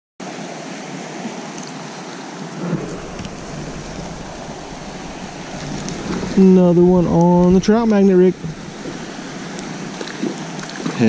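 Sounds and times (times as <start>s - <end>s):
creek water rushing over rocks: 0.2s - 11.0s.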